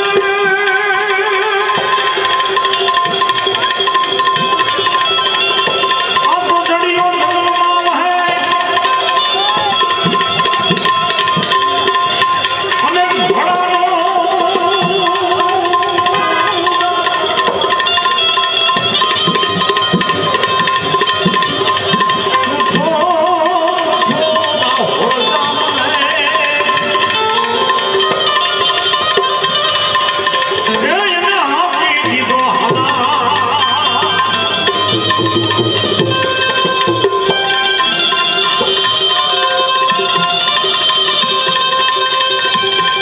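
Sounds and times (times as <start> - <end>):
tabla playing: 0.0 - 43.0
wavering melody with vibrato: 0.0 - 43.0.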